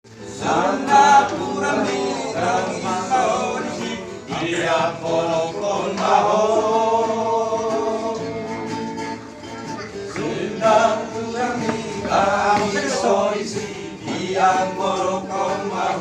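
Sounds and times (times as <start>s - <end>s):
men singing in harmony: 0.1s - 9.0s, 10.2s - 16.0s.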